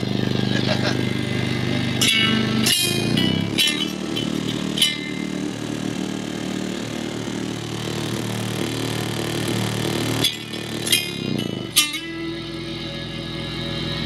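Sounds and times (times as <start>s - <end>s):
droning bass from car subwoofers: 0.0s - 14.0s.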